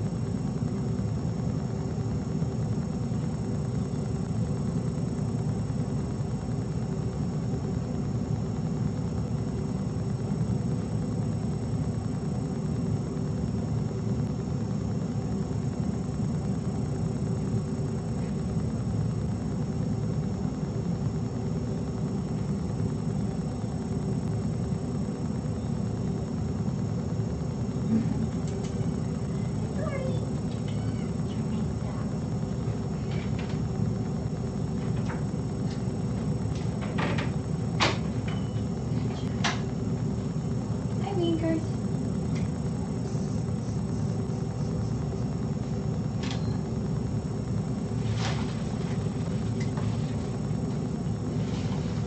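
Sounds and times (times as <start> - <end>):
machinery hum and rumble: 0.0 - 52.0.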